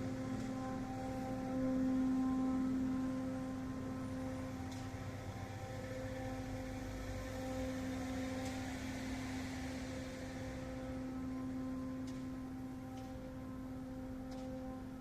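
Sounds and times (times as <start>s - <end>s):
steady droning hum: 0.0s - 15.0s.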